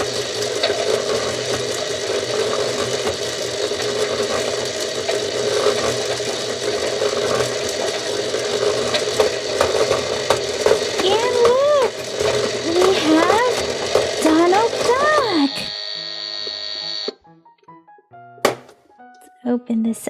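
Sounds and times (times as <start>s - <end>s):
small electric motor whirring: 0.0s - 17.1s.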